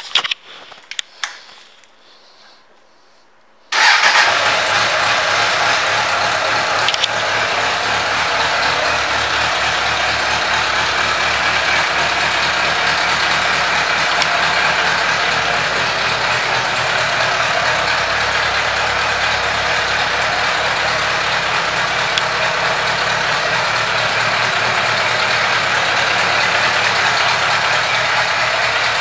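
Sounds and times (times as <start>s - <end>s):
motorcycle engine starting and idling: 3.7s - 29.0s.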